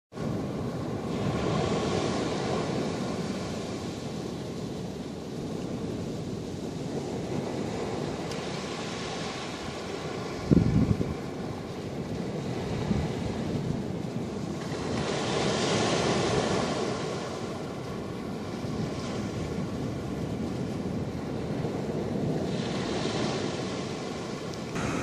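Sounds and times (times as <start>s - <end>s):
ocean surf on sandy beach: 0.1s - 25.0s
wind buffeting microphone: 0.1s - 25.0s.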